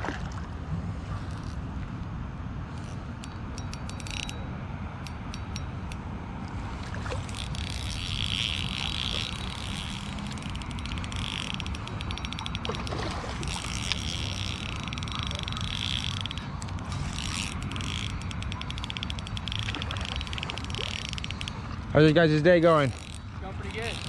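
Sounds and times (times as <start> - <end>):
fishing reel whirring: 2.7 - 4.4, 5.0 - 24.0.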